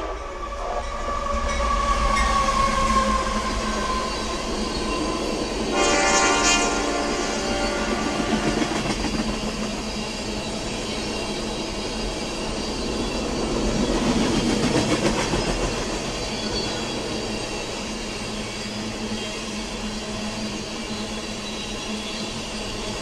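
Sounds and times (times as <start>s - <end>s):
train clickety-clack: 0.0s - 23.0s
train wheels rumbling on rail: 0.0s - 23.0s.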